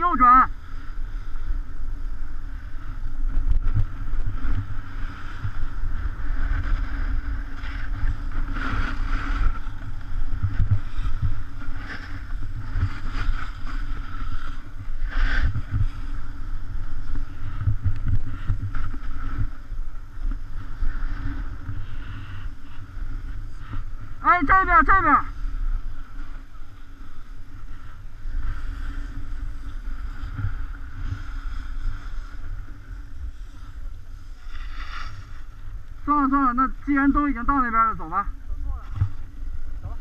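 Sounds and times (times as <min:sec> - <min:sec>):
wind buffeting microphone: 0:00.0 - 0:40.0
skis scraping on snow: 0:00.7 - 0:40.0.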